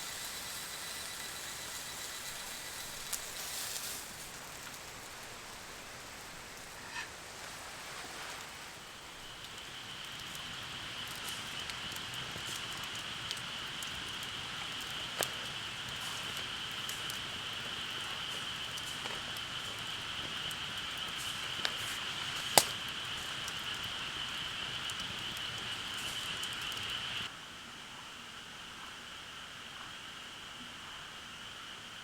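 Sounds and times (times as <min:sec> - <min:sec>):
campfire crackling and popping: 0:00.0 - 0:27.3
steady high hiss: 0:00.0 - 0:32.0.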